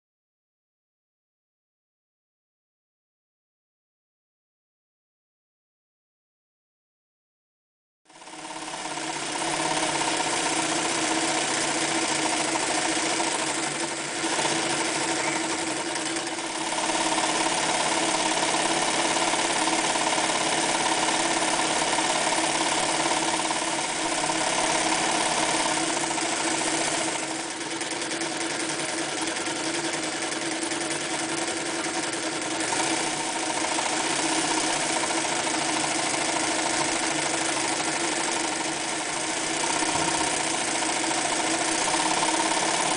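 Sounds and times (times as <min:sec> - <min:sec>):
sewing machine running: 0:08.1 - 0:42.9.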